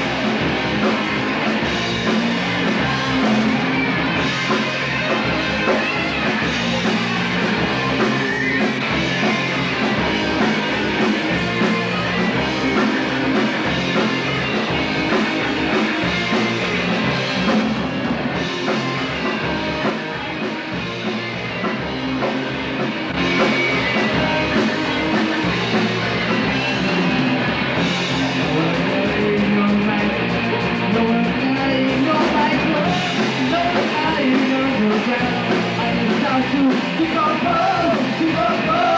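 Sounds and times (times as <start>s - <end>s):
punk rock band playing: 0.0s - 38.9s.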